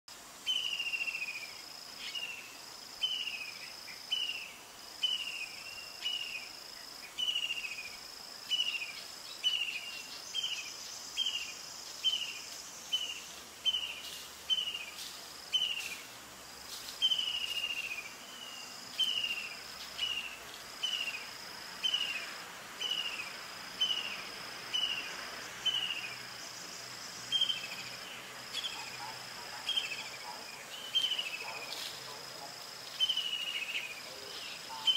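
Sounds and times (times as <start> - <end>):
insects buzzing: 0.1 - 34.9.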